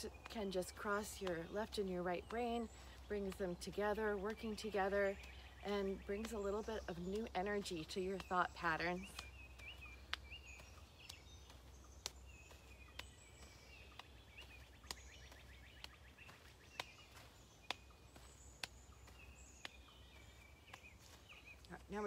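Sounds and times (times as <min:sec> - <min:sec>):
faint birdsong: 0:00.0 - 0:22.0
hands tapping knees: 0:00.0 - 0:22.0.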